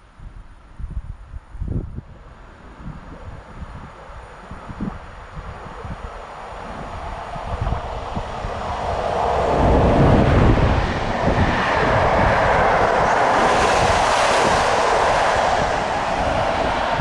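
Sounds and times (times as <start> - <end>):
train passing on rails: 1.9 - 17.0.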